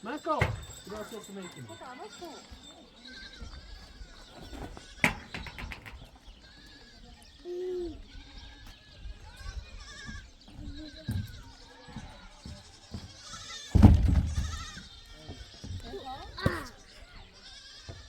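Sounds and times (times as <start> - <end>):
animals bleating: 0.0 - 18.0.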